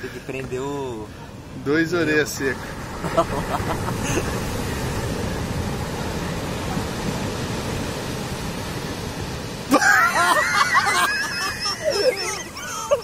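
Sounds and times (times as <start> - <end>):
waves breaking on a beach: 0.0 - 13.0.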